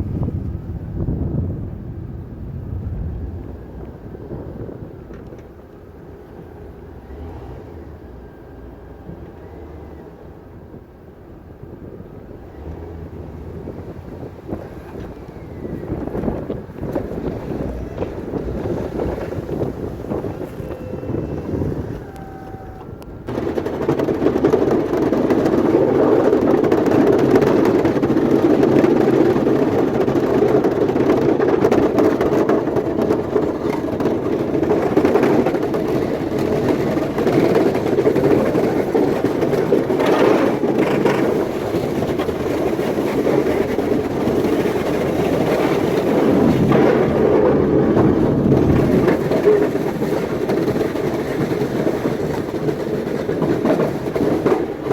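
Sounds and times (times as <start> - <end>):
snow-clearing machine engine: 0.0 - 54.9.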